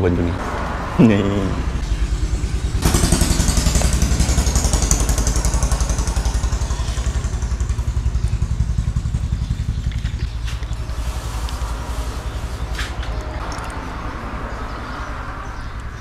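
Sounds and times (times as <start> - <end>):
motorcycle engine idling: 1.4 - 14.6.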